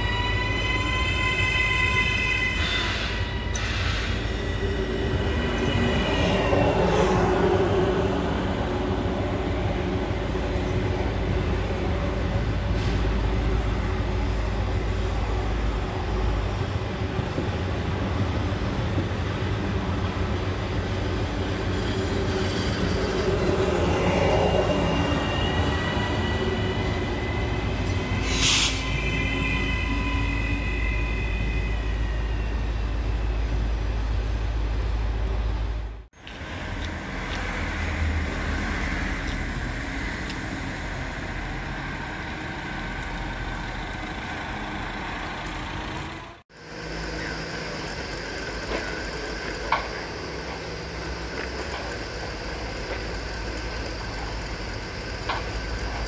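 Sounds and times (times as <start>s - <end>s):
electric train rumbling and whining: 0.0s - 56.0s.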